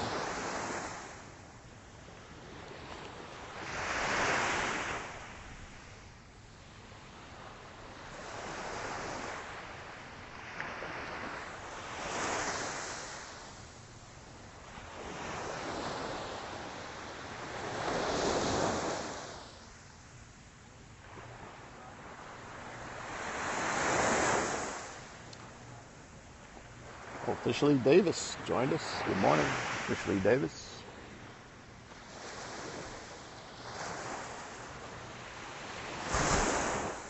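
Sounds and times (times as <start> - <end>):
waves breaking on a beach: 0.0 - 37.0.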